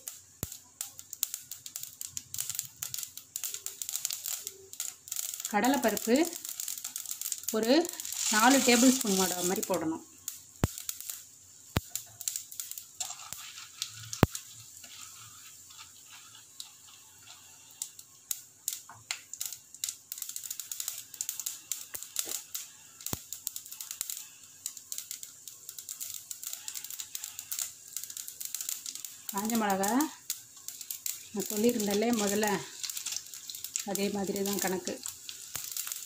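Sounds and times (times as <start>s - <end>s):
hot oil sizzling and crackling: 0.0s - 36.0s
seeds popping in oil: 0.0s - 36.0s.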